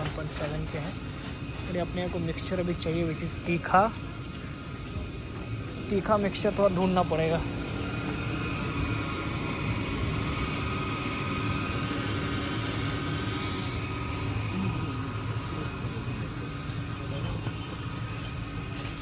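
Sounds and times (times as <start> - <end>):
faint steady hum tones: 0.0 - 19.0
low continuous rumble: 0.0 - 19.0.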